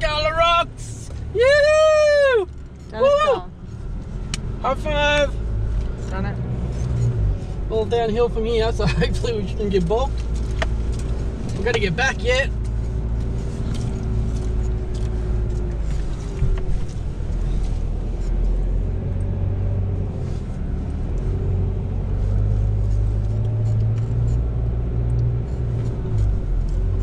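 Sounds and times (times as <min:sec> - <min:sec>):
vehicle engine and tyre rumble: 0:00.0 - 0:27.0.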